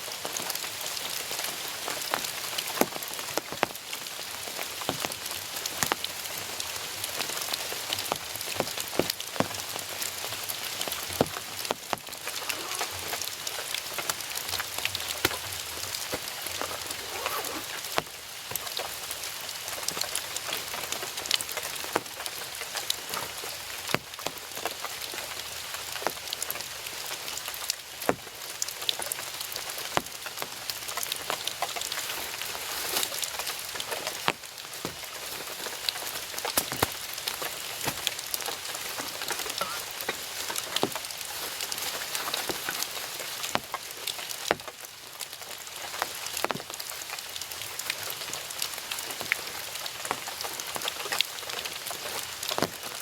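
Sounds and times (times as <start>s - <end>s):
heavy rain falling: 0.0s - 53.0s
large raindrops ticking: 0.0s - 53.0s.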